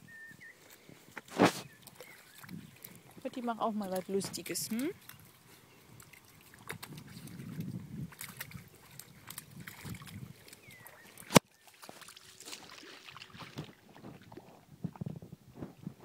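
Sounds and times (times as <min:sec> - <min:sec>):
dog splashing in a muddy puddle: 0:01.3 - 0:15.0.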